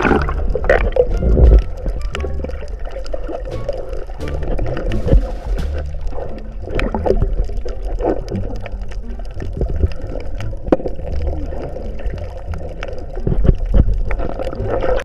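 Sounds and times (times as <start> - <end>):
water gurgling and sloshing: 0.0 - 15.0.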